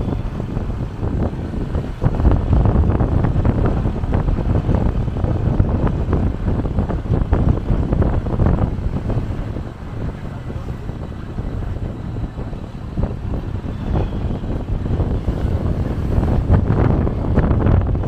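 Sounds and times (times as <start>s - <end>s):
vehicle road rumble: 0.0s - 18.0s
wind buffeting microphone: 0.0s - 18.0s.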